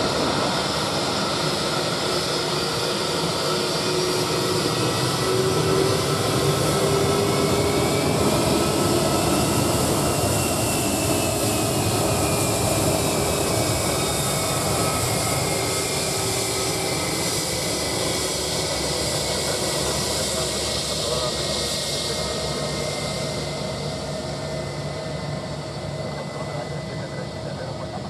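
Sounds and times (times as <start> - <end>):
jet airliner taxiing whine: 0.0 - 28.0.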